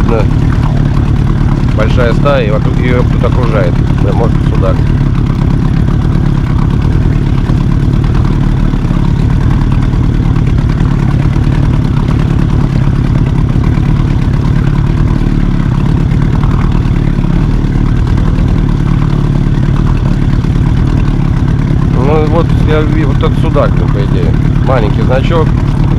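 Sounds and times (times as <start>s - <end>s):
outboard motor running: 0.0s - 25.9s.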